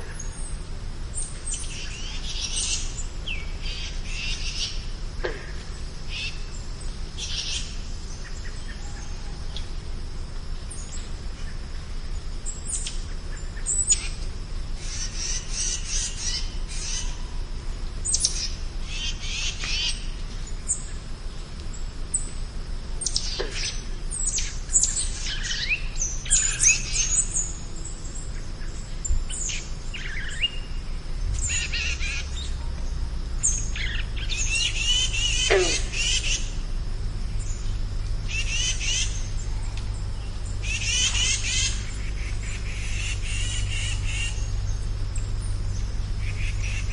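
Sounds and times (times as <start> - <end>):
birds singing and calling: 0.0 - 46.9
steady low rumble: 0.0 - 46.9.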